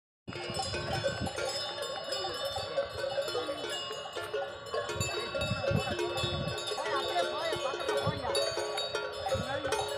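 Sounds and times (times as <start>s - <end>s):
cattle bells clinking: 0.3s - 9.9s.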